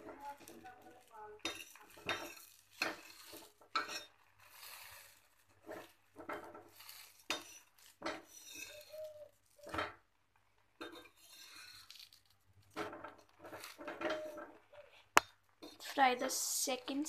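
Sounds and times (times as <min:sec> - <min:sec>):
spatula scraping and knocking metal: 0:00.0 - 0:10.0, 0:10.8 - 0:14.6, 0:15.2 - 0:16.0
faint sizzle: 0:00.0 - 0:17.0.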